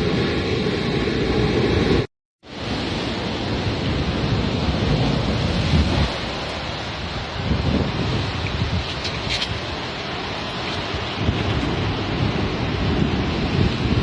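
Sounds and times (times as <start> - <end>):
sea surf: 0.0 - 14.0
wind: 0.0 - 14.0.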